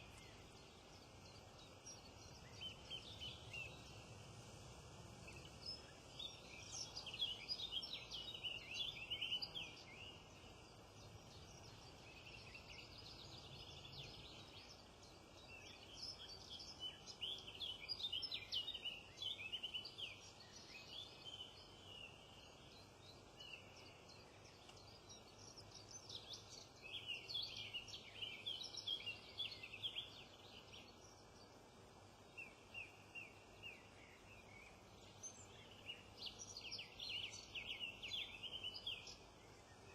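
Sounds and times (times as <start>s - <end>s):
birds singing and chirping: 0.0s - 4.1s, 5.2s - 39.9s
faint background hiss: 0.0s - 39.9s.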